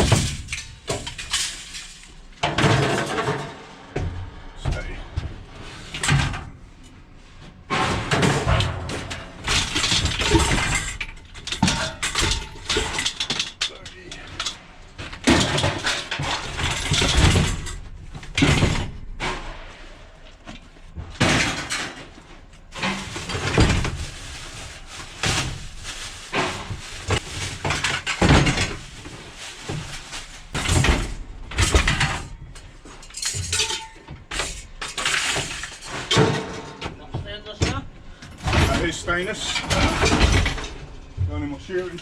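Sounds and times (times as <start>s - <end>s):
scrap metal clanking onto pile: 0.0s - 3.9s, 7.7s - 20.0s, 21.1s - 37.0s, 38.3s - 40.9s.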